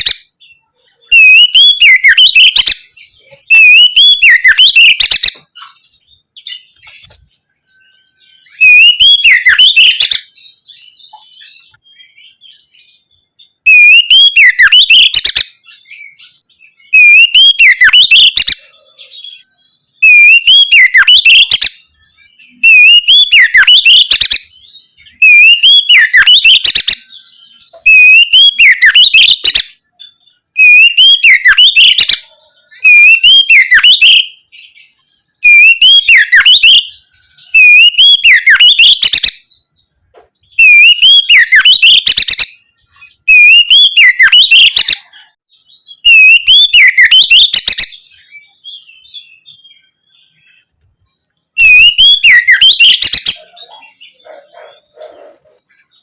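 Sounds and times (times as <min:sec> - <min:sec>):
bird singing whistled phrases: 0:00.0 - 0:39.8, 0:40.4 - 0:50.7, 0:51.6 - 0:56.0.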